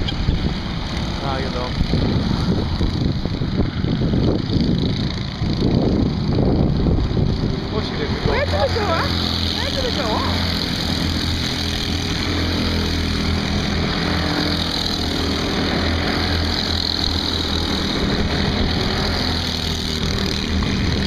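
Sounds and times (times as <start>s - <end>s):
go-kart engines buzzing: 0.0s - 21.0s.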